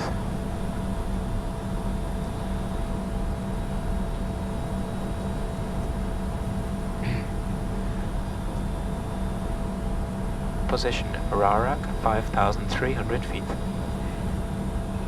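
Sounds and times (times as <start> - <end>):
cockpit airflow and engine noise: 0.0 - 15.0
low hum: 0.0 - 15.0.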